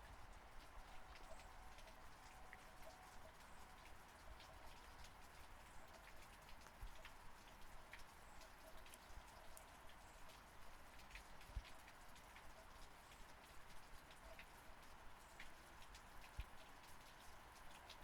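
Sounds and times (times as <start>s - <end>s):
light rain with ticking drops: 0.0s - 18.0s.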